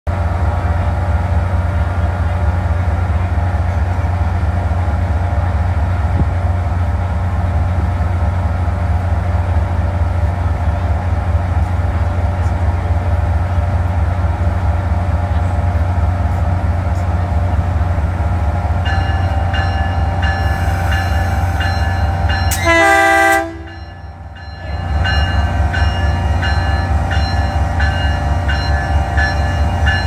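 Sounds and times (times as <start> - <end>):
diesel locomotive idling: 0.1 - 30.0.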